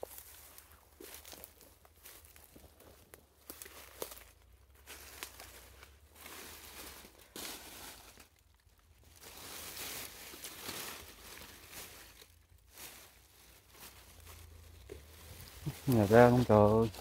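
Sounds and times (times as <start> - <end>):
rustling in dry vegetation: 0.0 - 17.0.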